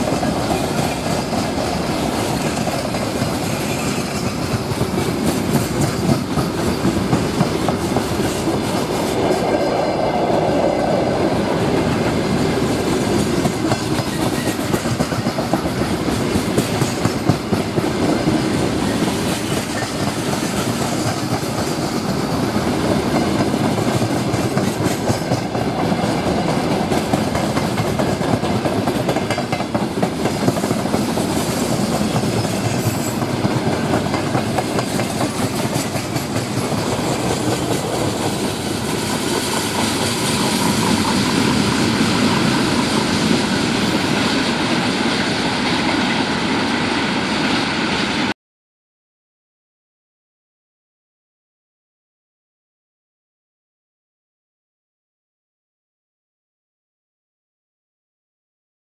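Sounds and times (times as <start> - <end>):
freight train rumbling past: 0.0 - 48.3.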